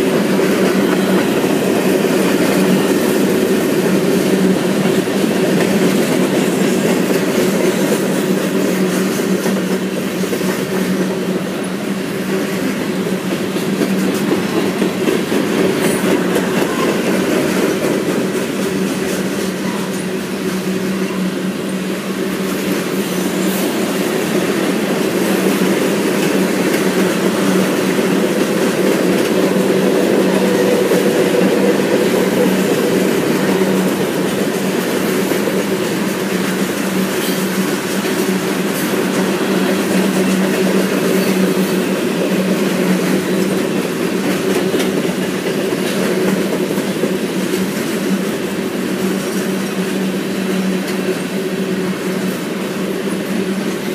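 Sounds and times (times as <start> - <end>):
freight train wheels rumbling: 0.0 - 53.9
wheels clickety-clack: 0.0 - 53.9.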